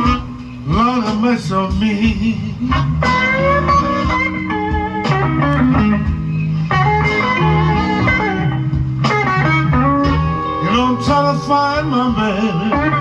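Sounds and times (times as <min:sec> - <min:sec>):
bass and band backing: 0:00.0 - 0:13.0
electric guitar blues fill: 0:00.0 - 0:13.0.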